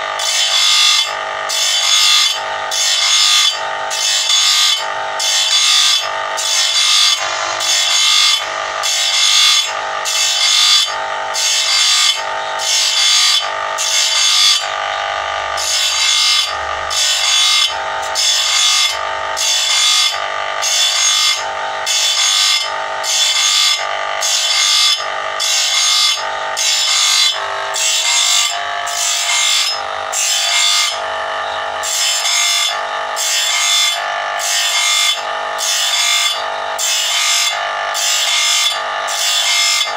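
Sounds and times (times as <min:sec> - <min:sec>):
grinder motor running: 0:00.0 - 0:39.9
grinding wheel on saw teeth: 0:00.0 - 0:39.9.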